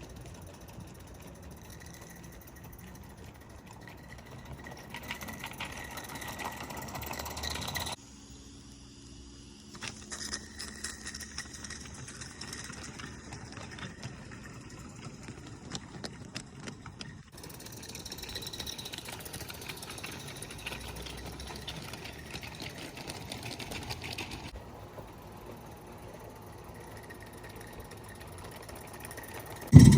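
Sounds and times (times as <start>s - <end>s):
rapid clicking of wheels: 0.0s - 8.0s, 9.8s - 29.9s.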